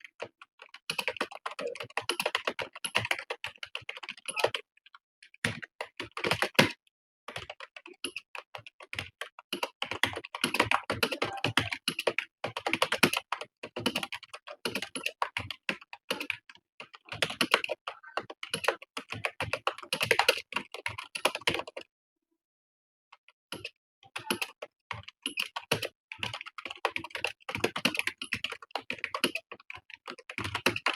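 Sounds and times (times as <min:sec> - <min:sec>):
fast typing on computer keyboard: 0:00.0 - 0:21.9, 0:23.5 - 0:30.9.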